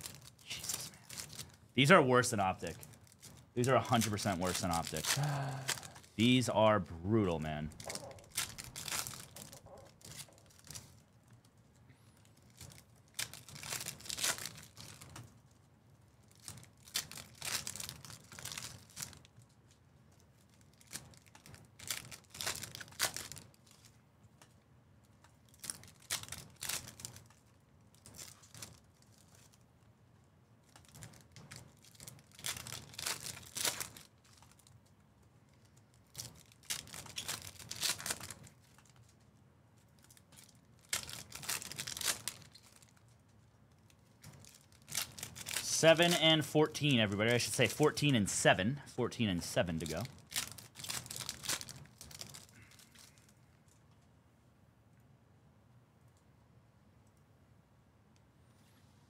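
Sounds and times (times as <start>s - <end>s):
foil wrappers crinkling and tearing: 0.0s - 11.5s, 12.2s - 24.0s, 25.4s - 29.6s, 30.6s - 34.8s, 35.5s - 48.2s, 49.2s - 53.8s.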